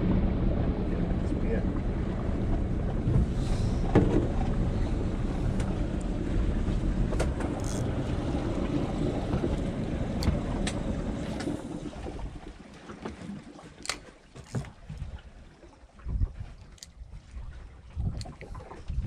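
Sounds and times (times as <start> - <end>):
wind on microphone: 0.0 - 12.6, 14.6 - 19.0
boat motor running: 0.0 - 15.4.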